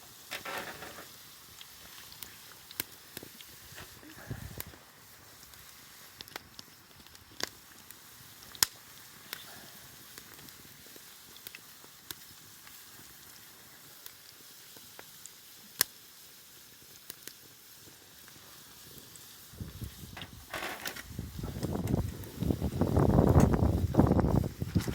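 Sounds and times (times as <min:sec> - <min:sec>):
campfire hissing: 0:00.0 - 0:24.9
campfire pops: 0:00.0 - 0:24.9.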